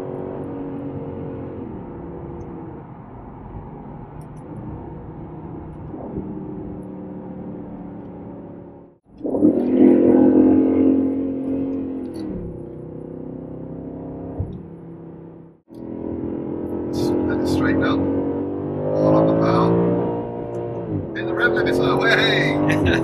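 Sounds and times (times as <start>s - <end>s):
car engine at cruise: 0.0s - 23.0s.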